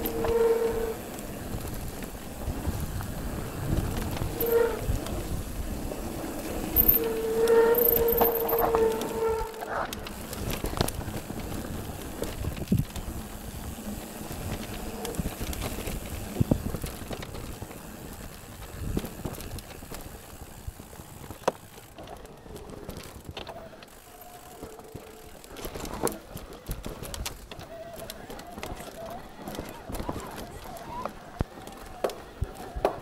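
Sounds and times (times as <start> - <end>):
bike tyre noise: 0.0 - 33.0
bike knocks and rattles: 6.6 - 33.0.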